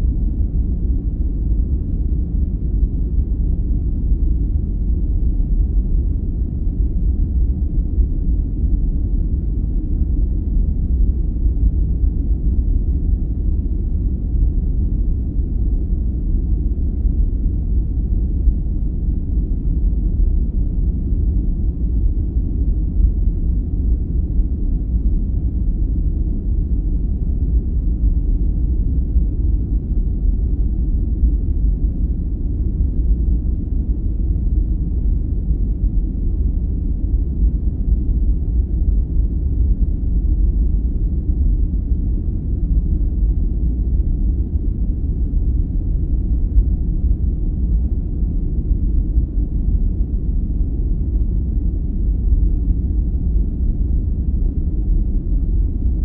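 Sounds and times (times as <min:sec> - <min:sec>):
low rumble noise: 0:00.0 - 0:56.0.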